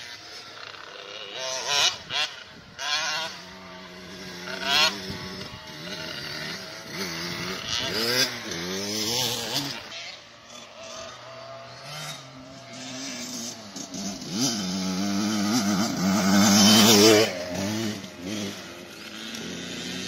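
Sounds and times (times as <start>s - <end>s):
motocross bike revving: 0.0s - 20.0s.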